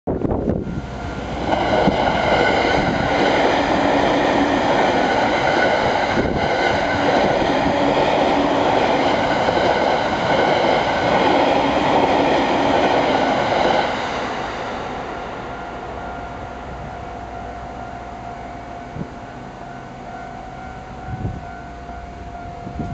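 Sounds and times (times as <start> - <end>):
electric train passing: 0.1 - 22.9
level crossing warning bells: 0.3 - 14.2, 14.8 - 22.9.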